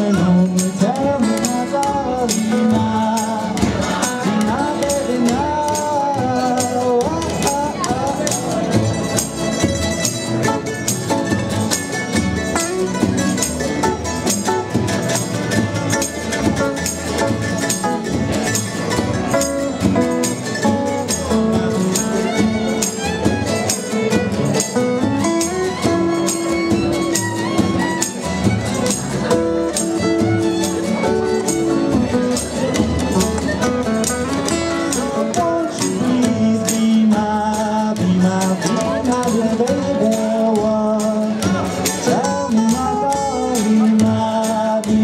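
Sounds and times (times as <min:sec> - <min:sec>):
acoustic string band playing: 0:00.0 - 0:45.0.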